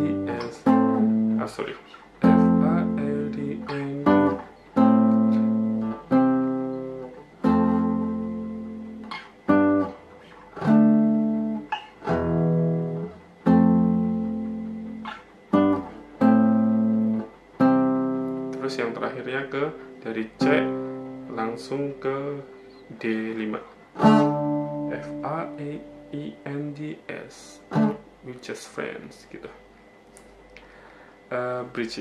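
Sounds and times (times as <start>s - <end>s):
classical guitar strumming chords: 0.0s - 28.3s.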